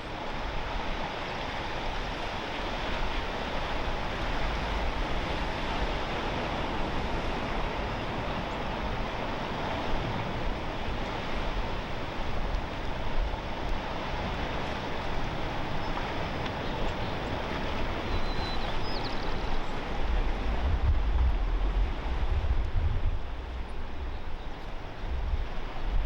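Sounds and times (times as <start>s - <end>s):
ocean surf: 0.0s - 26.0s
wind: 0.0s - 26.0s.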